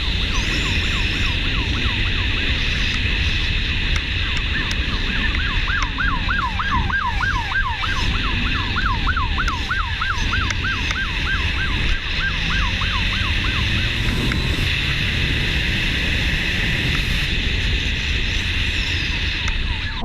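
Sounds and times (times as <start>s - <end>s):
emergency siren yelping: 0.0s - 17.7s, 19.0s - 20.0s
road and wind noise: 0.0s - 20.0s.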